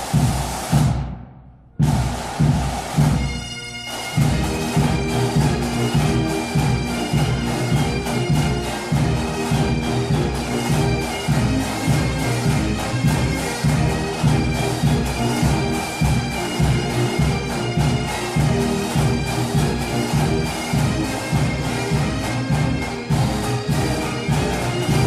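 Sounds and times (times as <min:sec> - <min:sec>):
marching drum beat: 0:00.0 - 0:25.0
bagpipes with drone: 0:03.0 - 0:25.0.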